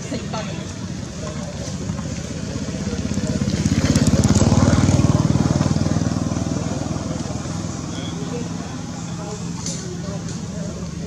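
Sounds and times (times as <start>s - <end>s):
small engine passing by: 0.0s - 11.0s.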